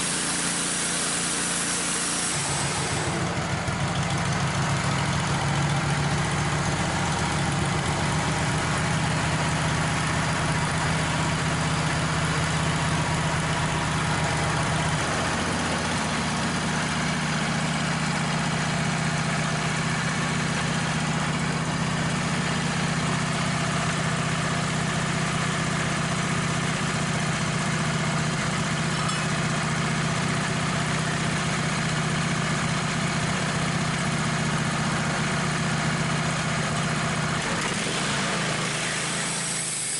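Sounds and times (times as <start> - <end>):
band sawmill engine humming: 0.0 - 39.9.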